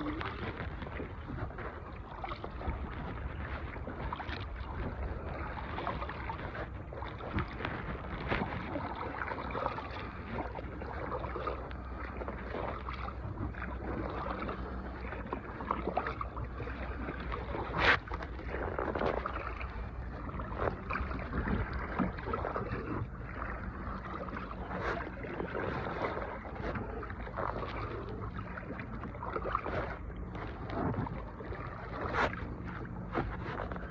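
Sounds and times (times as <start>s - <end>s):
water washing against hull: 0.0s - 33.9s.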